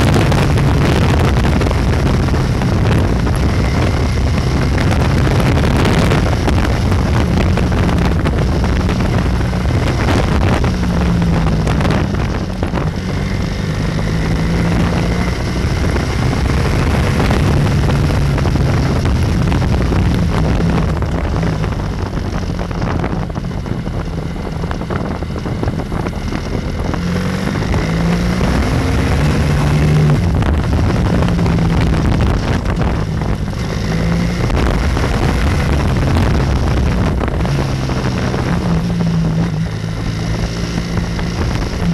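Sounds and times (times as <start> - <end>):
motorcycle engine revving: 0.0 - 41.9
wind rush on microphone: 0.0 - 41.9.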